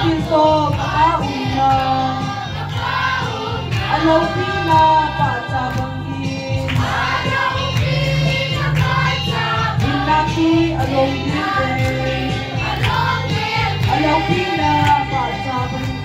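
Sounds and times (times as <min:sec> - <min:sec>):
group of voices singing: 0:00.0 - 0:16.0.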